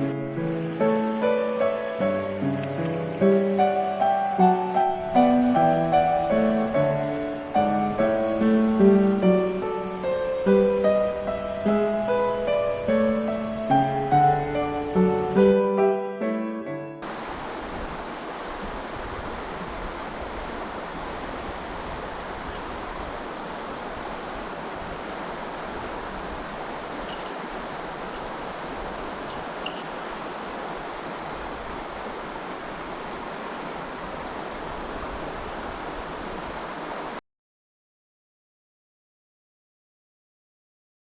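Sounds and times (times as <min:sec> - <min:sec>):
stream water flowing: 0:00.0 - 0:16.0, 0:17.0 - 0:37.2.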